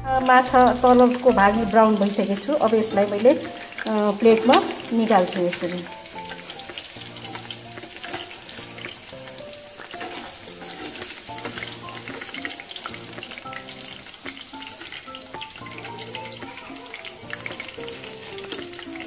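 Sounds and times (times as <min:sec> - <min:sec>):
background music: 0:00.0 - 0:19.0
fish sizzling in hot oil: 0:00.2 - 0:19.0
metal spatula scraping pan: 0:01.0 - 0:19.0.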